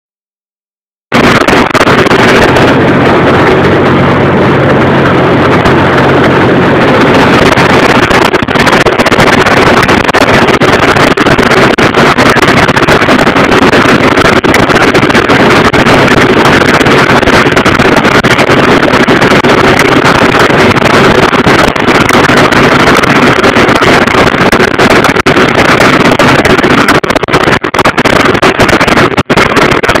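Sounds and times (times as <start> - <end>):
tractor running under load: 1.1 - 30.0
wind on microphone: 1.1 - 30.0.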